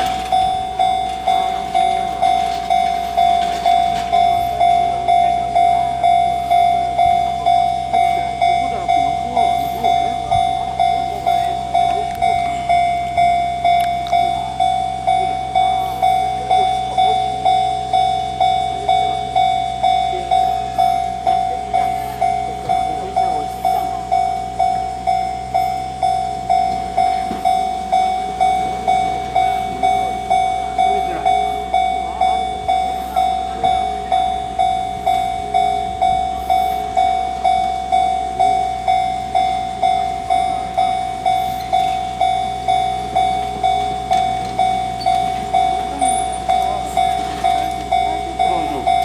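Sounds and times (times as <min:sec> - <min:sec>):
level crossing warning bell: 0:00.0 - 0:49.0.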